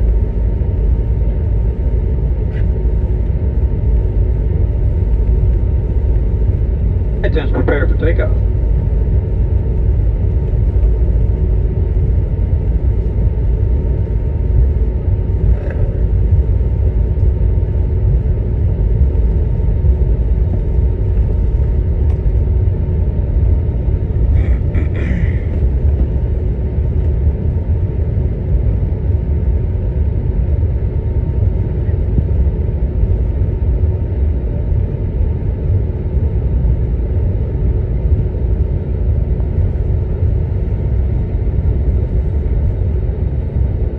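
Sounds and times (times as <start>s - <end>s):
airplane cabin rumble: 0.0s - 43.9s
faint steady hum: 0.0s - 43.9s.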